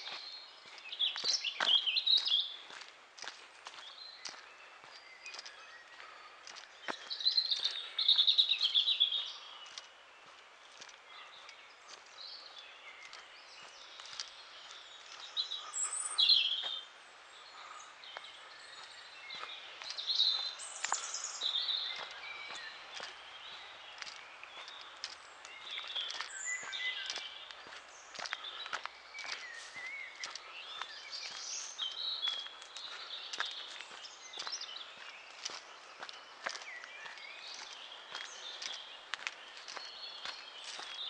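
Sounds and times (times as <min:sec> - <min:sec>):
soft footsteps on path: 0:00.0 - 0:41.0
songbirds trilling: 0:00.0 - 0:41.0.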